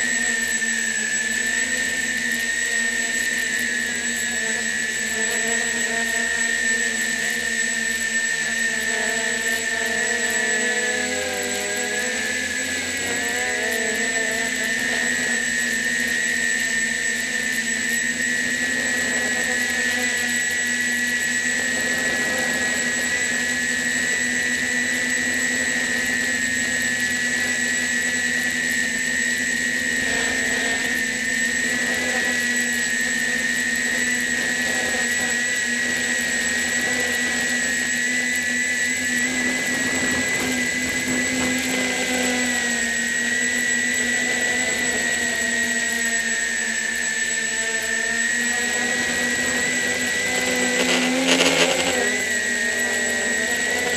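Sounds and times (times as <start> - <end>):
drone motors whining: 0.0 - 53.9.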